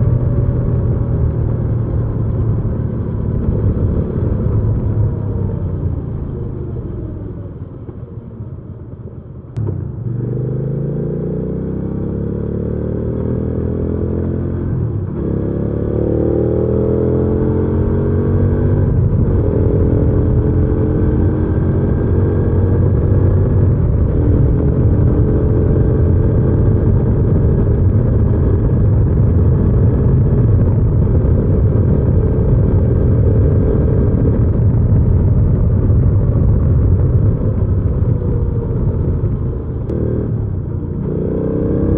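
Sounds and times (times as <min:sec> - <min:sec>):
motorcycle engine accelerating: 0:00.0 - 0:41.9
road noise: 0:00.0 - 0:41.9.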